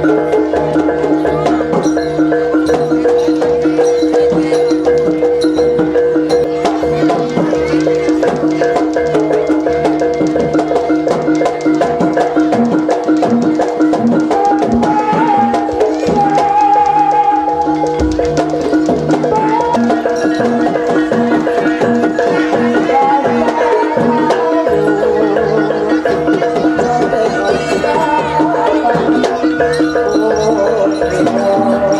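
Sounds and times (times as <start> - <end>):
drums and percussion: 0.0 - 31.9.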